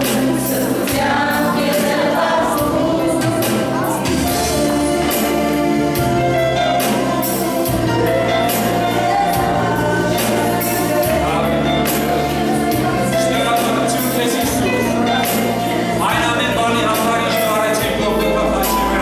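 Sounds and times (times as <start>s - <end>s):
electronic keyboard chords: 0.0s - 19.0s
person singing: 0.0s - 19.0s.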